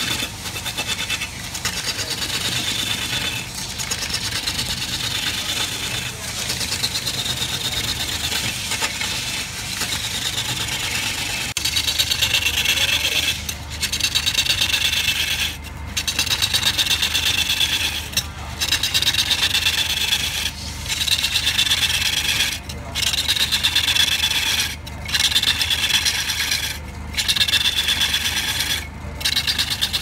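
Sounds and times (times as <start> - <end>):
lathe tool scraping wood: 0.0 - 30.0.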